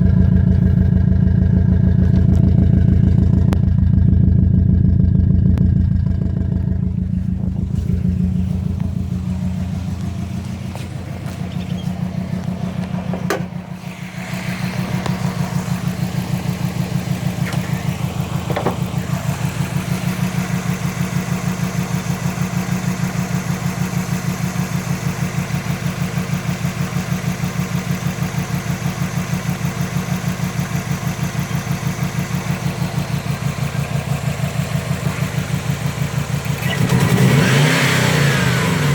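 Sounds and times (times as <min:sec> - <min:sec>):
car engine idling with stumble: 0:00.0 - 0:38.9.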